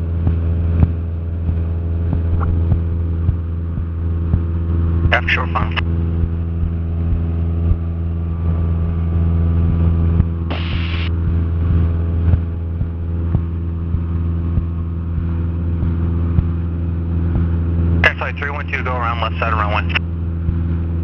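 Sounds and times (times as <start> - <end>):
airplane engine and propeller droning: 0.0 - 21.0.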